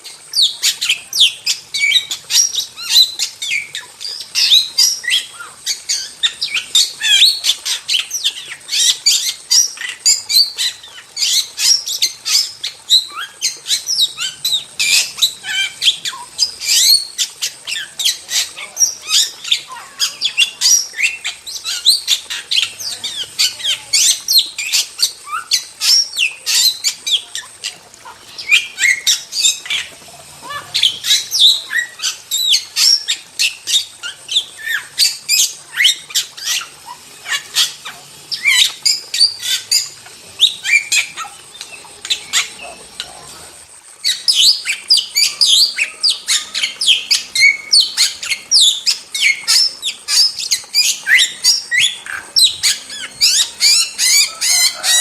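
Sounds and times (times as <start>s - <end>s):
starlings chattering and squawking: 0.0s - 55.0s.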